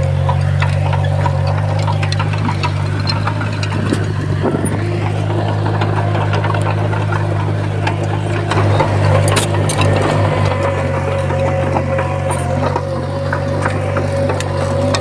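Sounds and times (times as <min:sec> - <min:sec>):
bulldozer diesel engine: 0:00.0 - 0:15.0.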